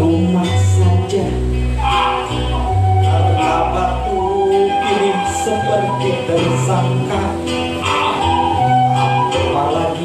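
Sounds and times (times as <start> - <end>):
guitar accompaniment: 0.0 - 10.0
person singing: 0.0 - 10.0.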